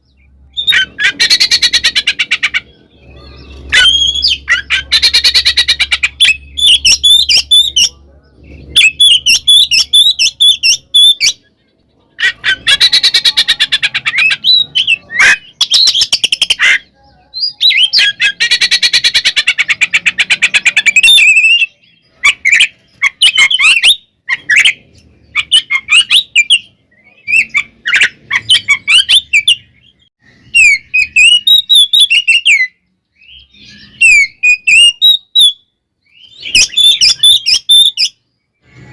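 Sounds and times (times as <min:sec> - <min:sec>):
bird singing with rattling chatters: 0:00.0 - 0:38.9.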